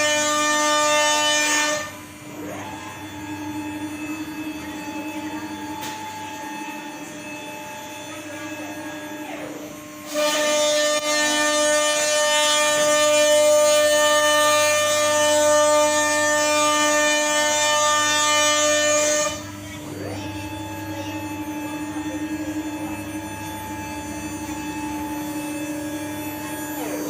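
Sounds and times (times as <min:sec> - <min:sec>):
cnc router whine: 0:00.0 - 0:27.0.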